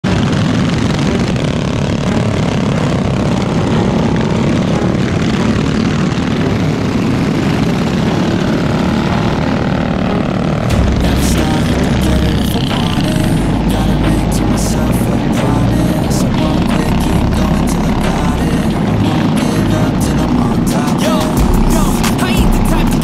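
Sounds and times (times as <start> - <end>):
mini bike engines buzzing: 0.0 - 23.0.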